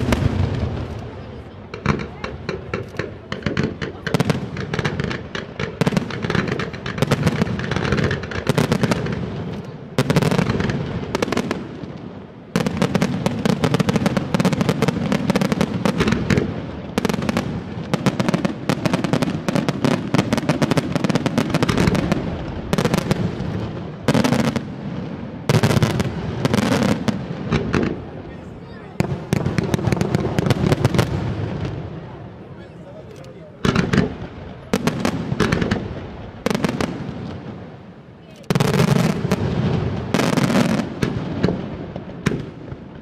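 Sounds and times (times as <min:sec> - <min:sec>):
fireworks bursts and crackling bangs: 0:00.0 - 0:43.0.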